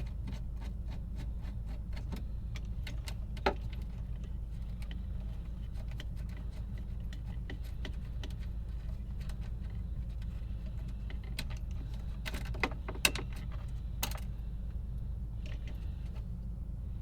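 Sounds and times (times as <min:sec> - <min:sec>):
steady low hum: 0:00.0 - 0:17.0
light clicks and taps: 0:00.2 - 0:14.3.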